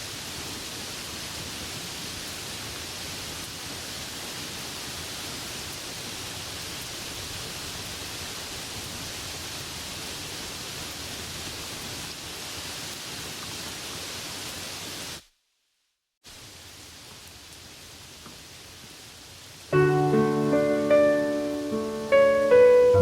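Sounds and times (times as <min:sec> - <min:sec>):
steady rain falling: 0:00.0 - 0:15.3, 0:16.2 - 0:23.0.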